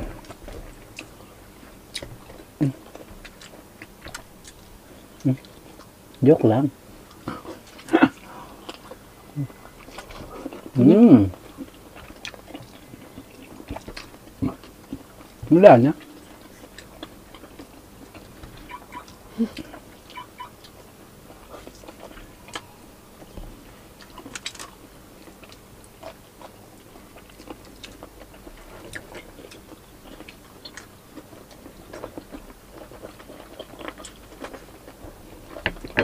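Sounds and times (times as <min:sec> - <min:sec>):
people chewing: 0:00.0 - 0:06.2, 0:07.0 - 0:36.0.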